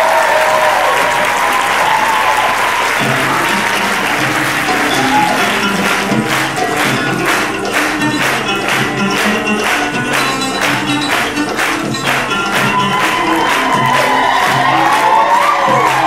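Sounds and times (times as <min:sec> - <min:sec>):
audience applause: 0:00.0 - 0:16.0
clapped beat: 0:00.0 - 0:16.0
plucked string instrument: 0:03.0 - 0:16.0.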